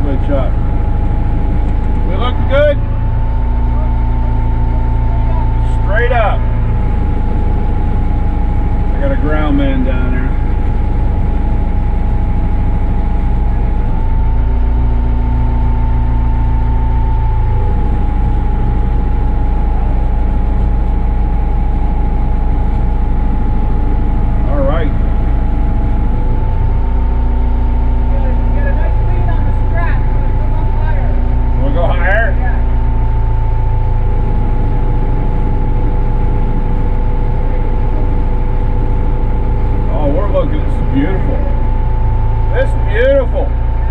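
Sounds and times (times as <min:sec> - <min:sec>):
diesel engine running: 0:00.0 - 0:43.9
hydraulic whine: 0:00.0 - 0:43.9.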